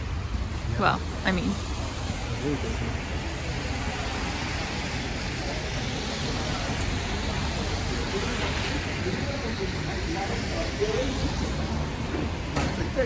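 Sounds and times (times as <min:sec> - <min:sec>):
city street traffic noise: 0:00.0 - 0:13.0.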